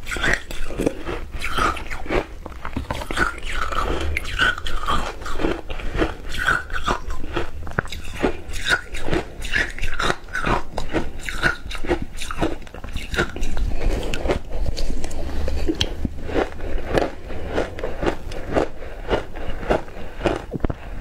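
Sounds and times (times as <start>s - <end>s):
person crunching ice: 0.1s - 21.0s.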